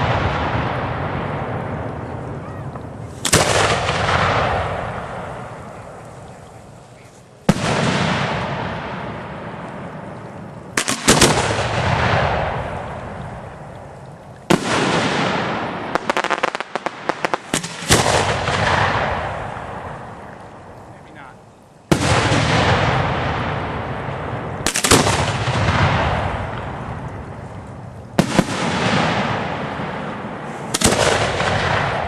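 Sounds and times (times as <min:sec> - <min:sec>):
fireworks bangs with rolling echo: 0:00.0 - 0:06.8, 0:07.4 - 0:32.0
crackling pops: 0:00.0 - 0:32.0.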